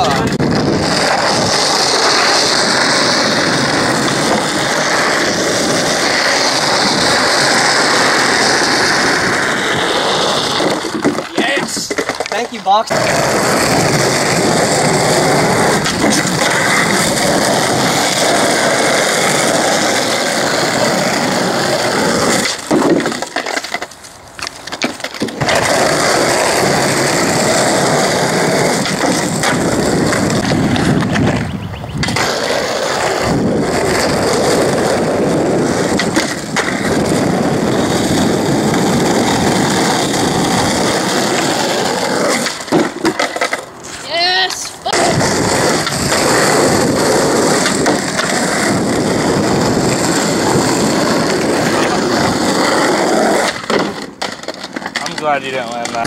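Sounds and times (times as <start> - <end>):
skateboard wheels rolling on asphalt: 0.0 - 56.0.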